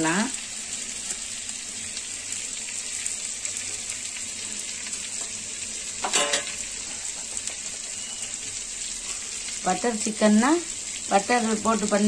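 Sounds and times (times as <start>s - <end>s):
butter sizzling in a wok: 0.0s - 12.0s.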